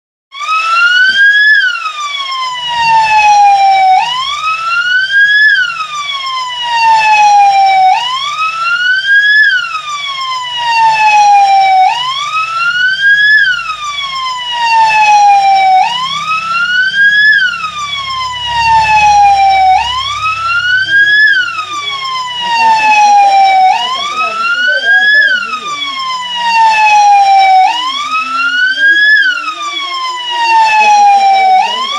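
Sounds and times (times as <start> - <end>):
police siren wailing: 0.3 - 31.9.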